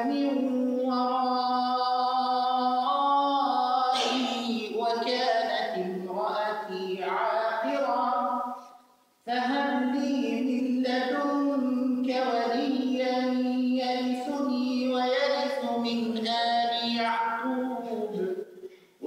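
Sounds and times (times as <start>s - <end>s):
man chanting melodic recitation: 0.0s - 8.6s, 9.3s - 18.4s.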